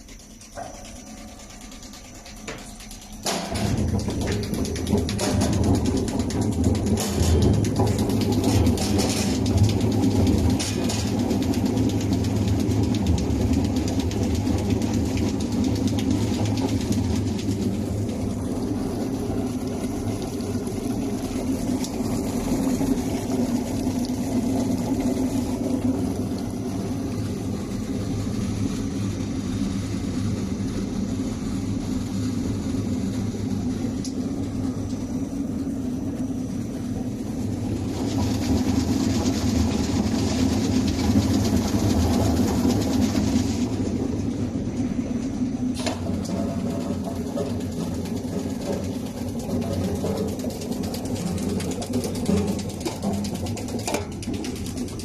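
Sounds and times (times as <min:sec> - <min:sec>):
machine rattling rumble: 0:00.0 - 0:55.0
washing machine low hum: 0:00.0 - 0:55.0.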